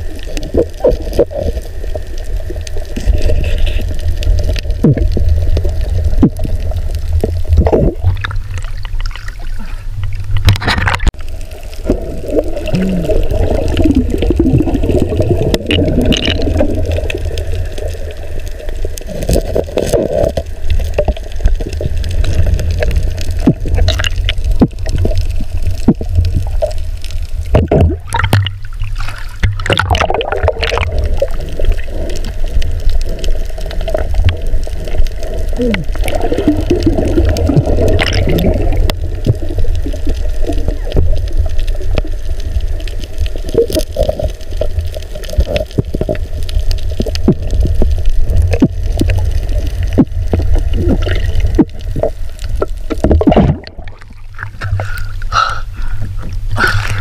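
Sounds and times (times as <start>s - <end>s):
water gurgling underwater: 0.0s - 57.0s.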